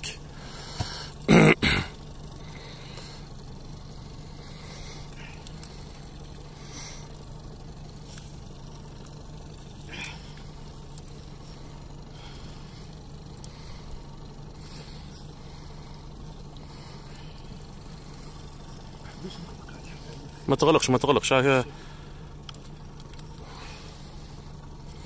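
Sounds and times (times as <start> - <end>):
engine idling hum: 0.0 - 25.0.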